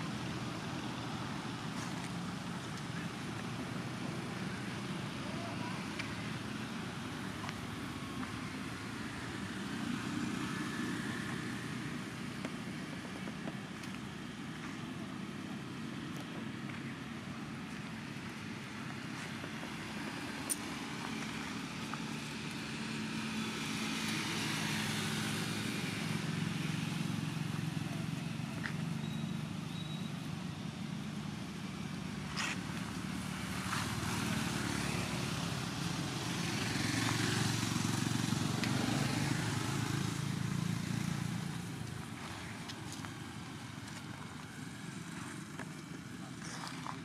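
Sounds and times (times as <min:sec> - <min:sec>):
passing motor vehicles droning: 0:00.0 - 0:47.0.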